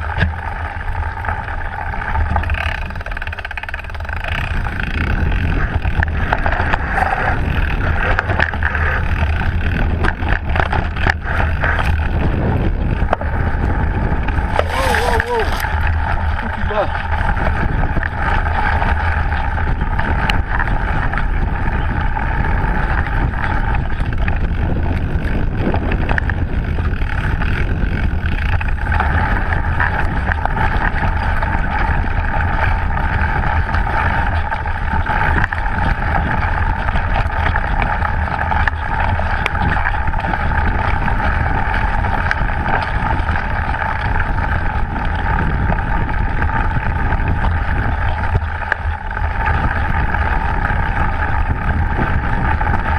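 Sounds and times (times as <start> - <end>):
bike rattles and knocks: 0.0 - 52.9
tyre noise on dirt: 0.0 - 52.9
wind rush over microphone: 0.0 - 52.9.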